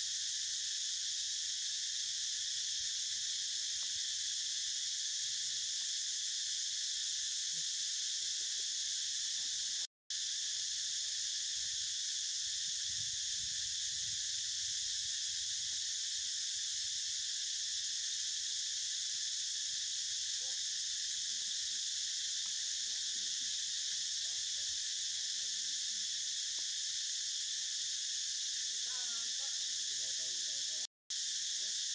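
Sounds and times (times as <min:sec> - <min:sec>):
high-pitched insect chorus: 0:00.0 - 0:31.9.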